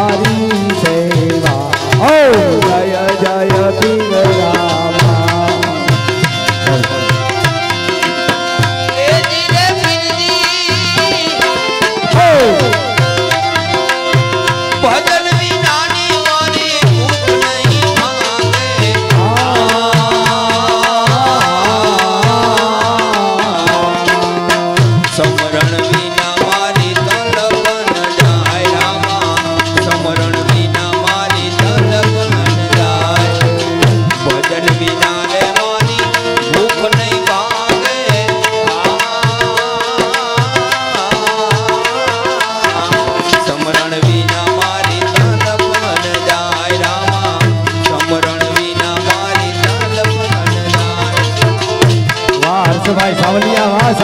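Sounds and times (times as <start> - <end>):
hand drum beat: 0.0 - 54.0.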